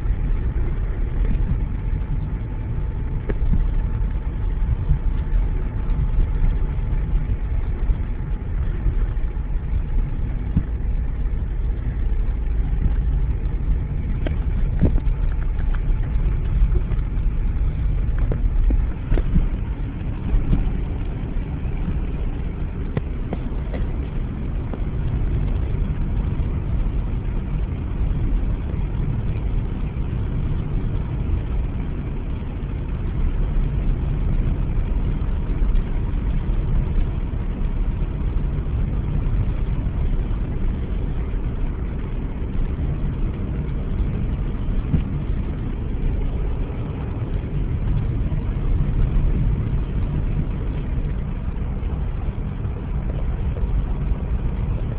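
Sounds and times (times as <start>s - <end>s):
engine and tyre rumble: 0.0s - 54.9s.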